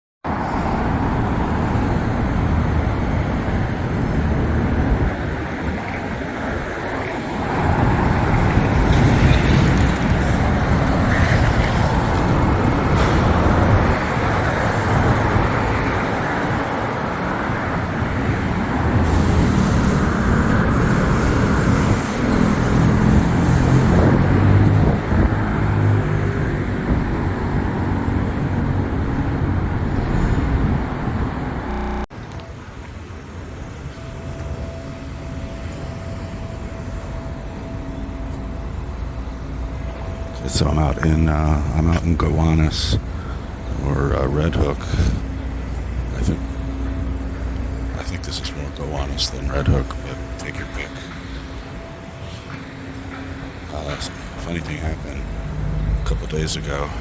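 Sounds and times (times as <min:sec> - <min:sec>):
street traffic rumble: 0:00.2 - 0:57.0.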